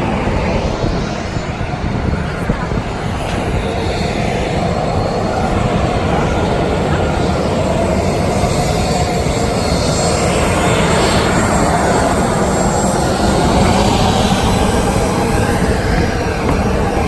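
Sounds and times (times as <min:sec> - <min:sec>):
jet airliner rushing noise: 0:00.0 - 0:17.0.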